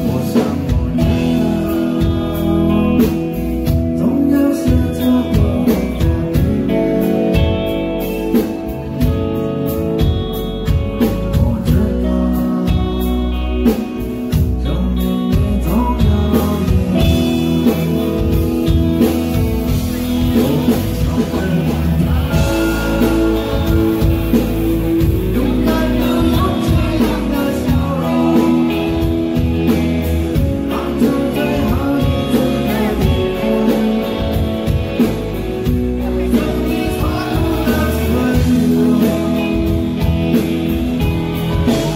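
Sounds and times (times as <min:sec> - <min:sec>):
drums with steady beat: 0:00.0 - 0:41.9
electric bass: 0:00.0 - 0:41.9.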